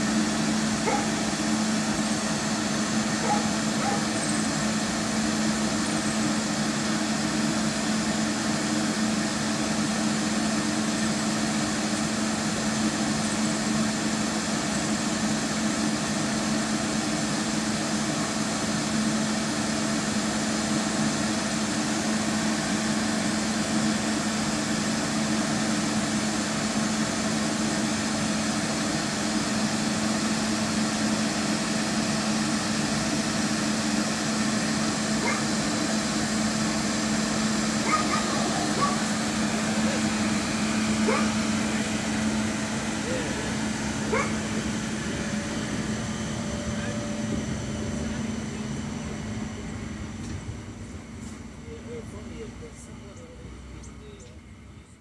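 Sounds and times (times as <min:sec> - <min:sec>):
tram equipment humming: 0:00.0 - 0:55.0.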